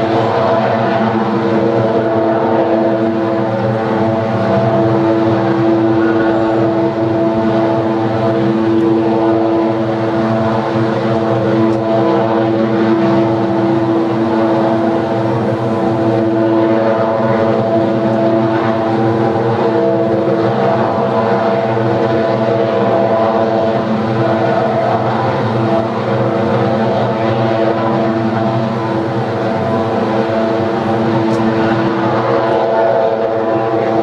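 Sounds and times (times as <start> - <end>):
power plant mechanical drone: 0.0 - 34.0.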